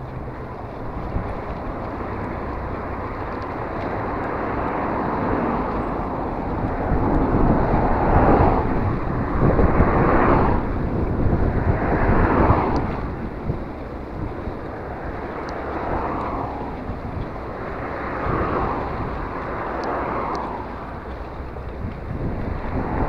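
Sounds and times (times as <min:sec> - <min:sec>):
bicycle road noise: 0:00.0 - 0:23.0
rushing wind: 0:00.0 - 0:23.0.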